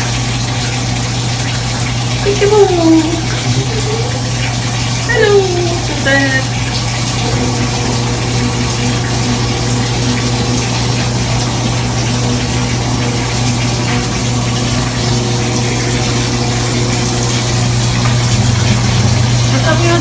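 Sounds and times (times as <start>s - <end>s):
shower water running: 0.0s - 20.0s
low hum: 2.6s - 20.0s.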